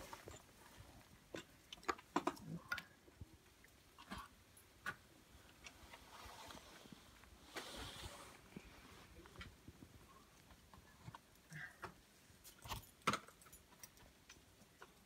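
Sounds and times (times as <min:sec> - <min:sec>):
quiet outdoor hiss: 0:00.0 - 0:15.0.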